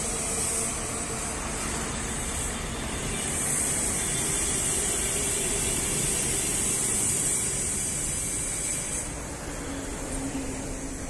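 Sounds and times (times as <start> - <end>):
high hiss: 0.0 - 11.0
road traffic rushing: 0.0 - 11.0.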